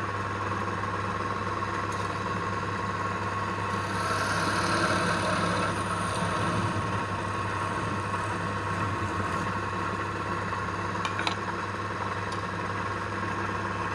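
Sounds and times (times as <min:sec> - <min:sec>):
wood lathe motor humming: 0:01.8 - 0:13.3.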